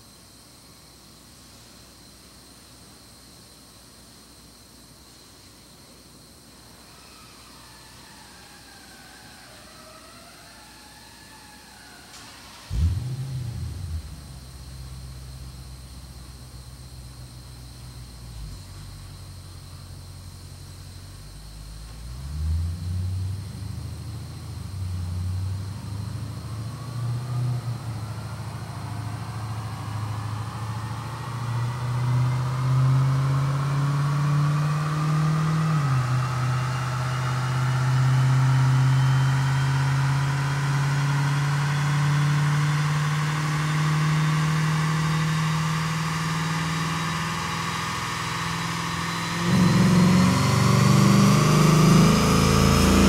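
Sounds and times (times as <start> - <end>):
thin rising whine: 5.8 - 53.0
car engine under load: 6.9 - 53.0.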